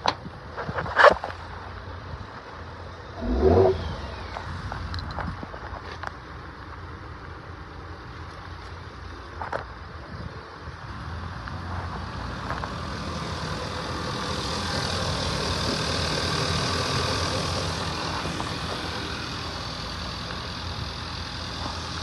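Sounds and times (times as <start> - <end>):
car engine humming: 2.5 - 22.0.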